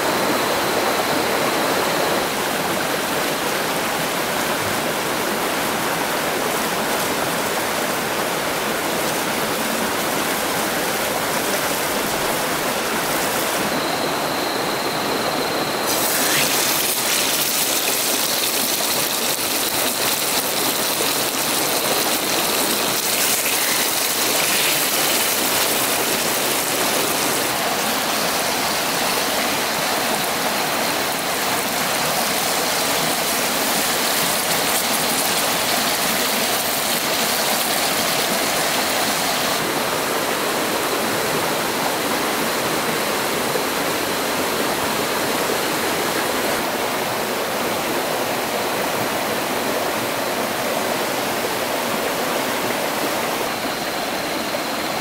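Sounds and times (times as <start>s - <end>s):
stream water over rocks: 0.0s - 55.0s.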